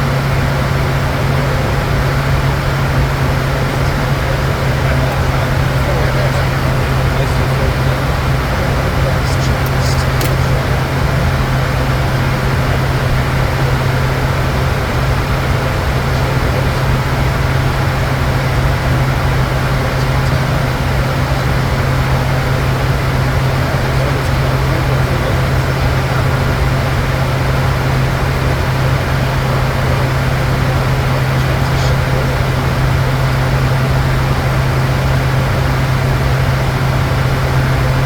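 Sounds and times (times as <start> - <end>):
constant low hum: 0.0 - 38.0
jet cabin air and engine noise: 0.0 - 38.0.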